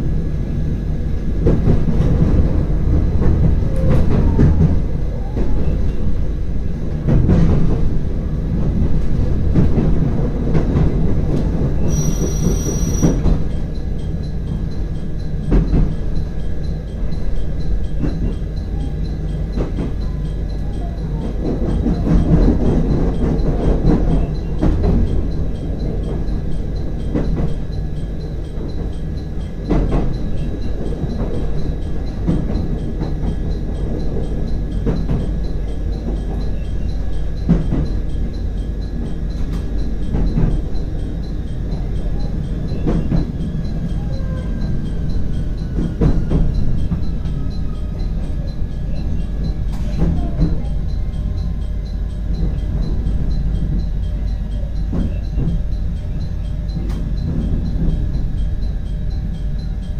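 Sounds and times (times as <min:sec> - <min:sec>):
train rumbling: 0:00.0 - 0:59.9
train wheels clacking: 0:00.6 - 0:59.9.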